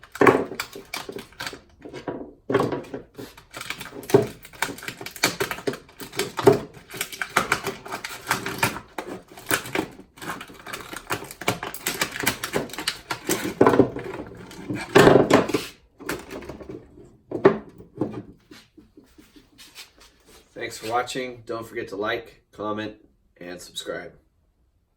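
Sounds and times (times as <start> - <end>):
clatter of knocks and scraping: 0.0 - 21.0.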